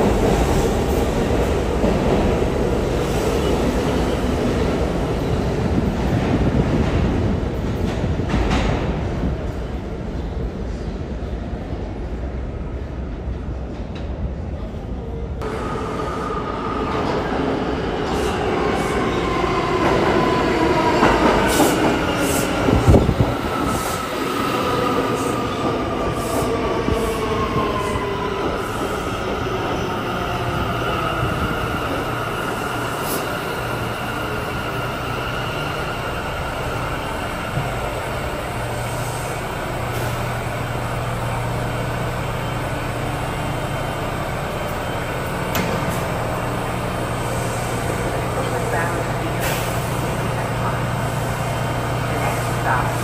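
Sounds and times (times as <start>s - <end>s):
subway train whine: 0.0s - 53.0s
train humming at platform: 0.0s - 53.0s.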